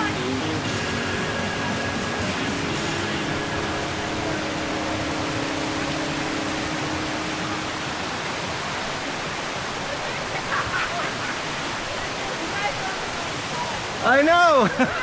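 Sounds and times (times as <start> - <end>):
rushing creek water: 0.0 - 15.0.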